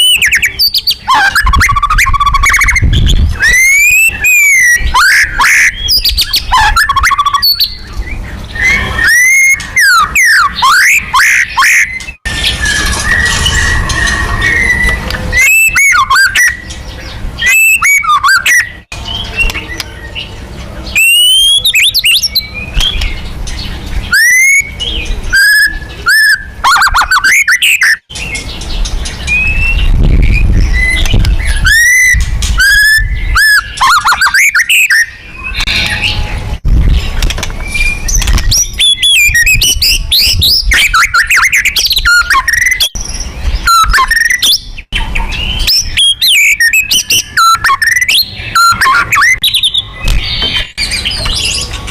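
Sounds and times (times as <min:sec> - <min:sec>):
songbird whistling and chattering: 0:00.0 - 0:51.9.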